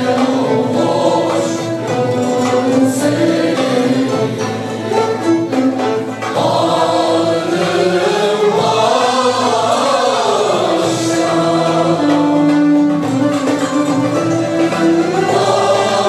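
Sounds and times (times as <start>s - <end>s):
mixed choir singing: 0.0s - 5.6s, 6.2s - 16.0s
frame drum: 0.0s - 16.0s
string ensemble: 0.0s - 16.0s.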